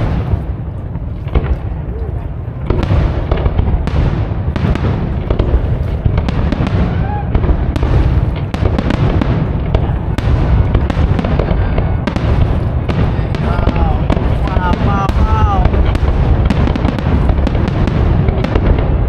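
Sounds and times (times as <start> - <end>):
fireworks bursting with bangs: 0.0 - 19.0
low rumble: 0.0 - 19.0.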